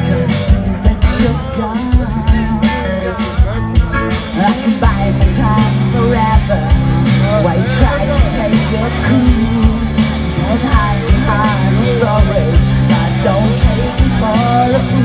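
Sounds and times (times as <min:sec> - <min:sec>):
man and woman singing: 0:00.0 - 0:15.0
rock band playing: 0:00.0 - 0:15.0.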